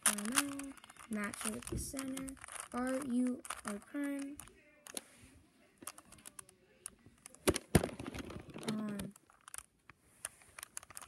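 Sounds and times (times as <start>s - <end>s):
plastic puzzle cube clicking: 0.0s - 5.0s, 5.8s - 11.0s.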